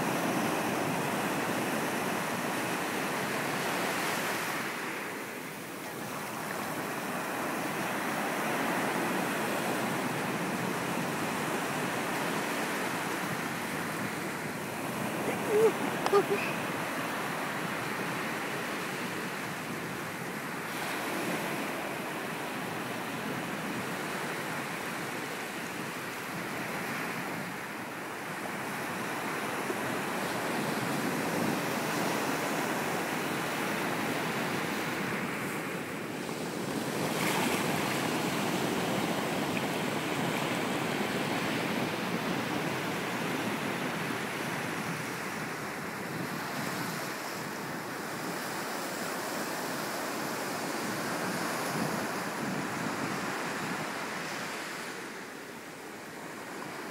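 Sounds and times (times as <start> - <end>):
ocean surf breaking on beach: 0.0 - 56.9.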